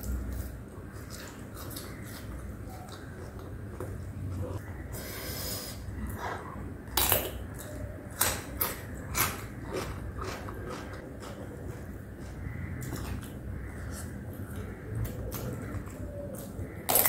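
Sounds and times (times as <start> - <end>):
chewing with mouth closed: 0.0 - 4.6, 7.0 - 17.0.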